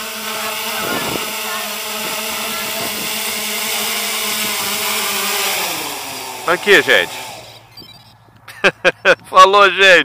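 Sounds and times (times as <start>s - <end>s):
quadcopter motors whining: 0.0s - 9.2s.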